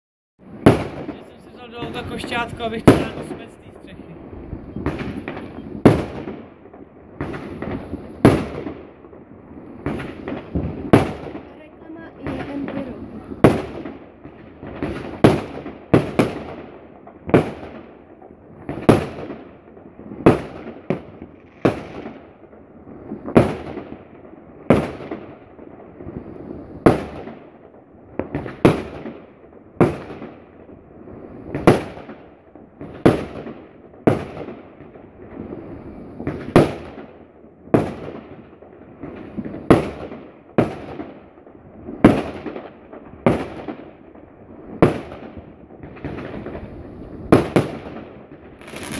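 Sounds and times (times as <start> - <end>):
fireworks bangs: 0.4 - 48.9
fireworks hiss and crackle: 0.4 - 48.9.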